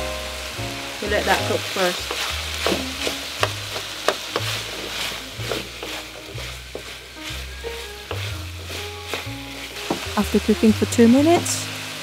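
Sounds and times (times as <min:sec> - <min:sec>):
food sizzling in hot oil: 0:00.0 - 0:12.0
wooden spatula scraping pan: 0:01.1 - 0:11.7.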